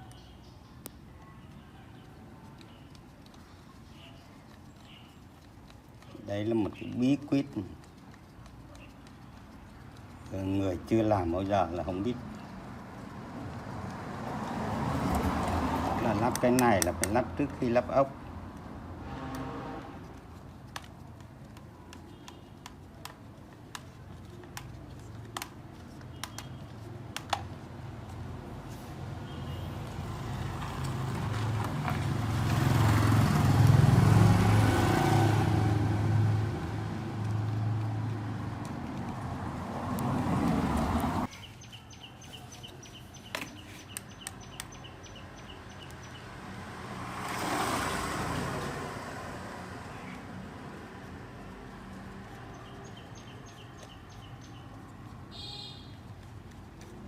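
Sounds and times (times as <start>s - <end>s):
motor vehicle passing: 3.9s - 20.9s, 23.9s - 55.3s.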